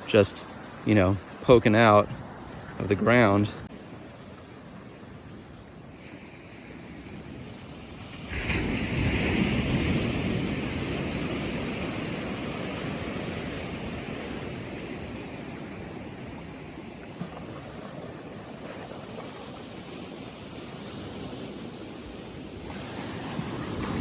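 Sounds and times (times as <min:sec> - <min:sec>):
ocean wave breaking on shore: 0:03.2 - 0:24.0.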